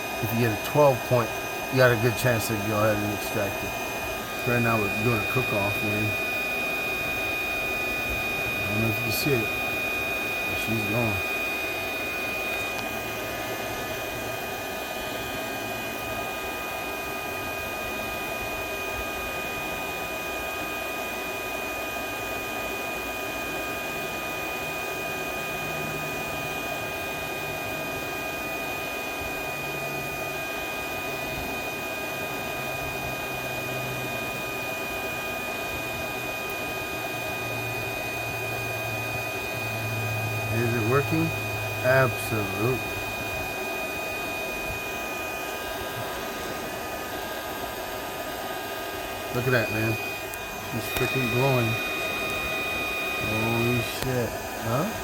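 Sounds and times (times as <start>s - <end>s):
induction heater whining: 0.0s - 55.0s.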